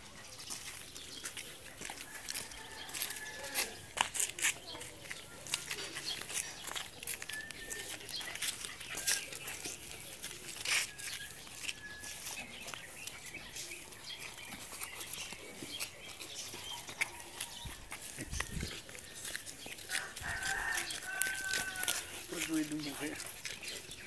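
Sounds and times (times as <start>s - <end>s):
dogs snuffling: 0.0s - 24.0s
paws scuffling on pavement: 0.0s - 24.0s.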